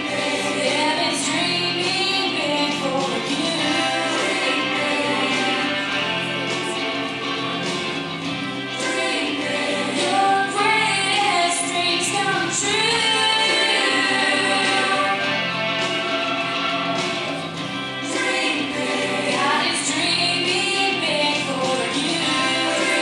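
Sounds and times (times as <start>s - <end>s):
group singing children's song: 0.0s - 8.0s, 8.7s - 23.0s
instrumental backing: 0.0s - 23.0s.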